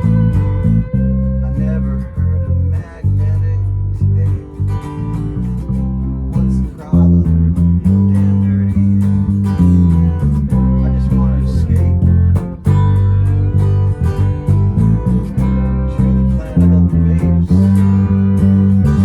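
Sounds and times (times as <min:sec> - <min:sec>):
bass guitar notes: 0:00.0 - 0:19.0
strummed guitars: 0:00.0 - 0:19.0.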